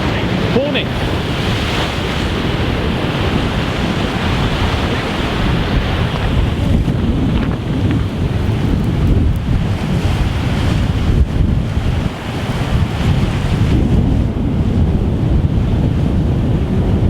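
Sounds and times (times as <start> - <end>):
surf washing against rocks: 0.0 - 16.8
wind buffeting microphone: 0.0 - 17.0.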